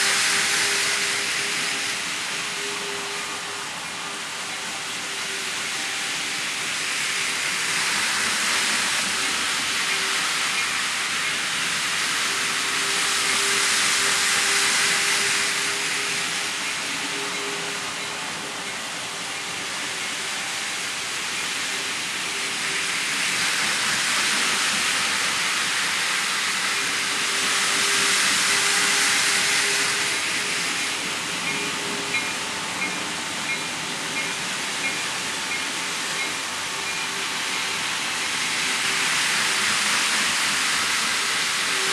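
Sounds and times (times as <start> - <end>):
model train wheels hissing on rail: 0.0 - 41.9.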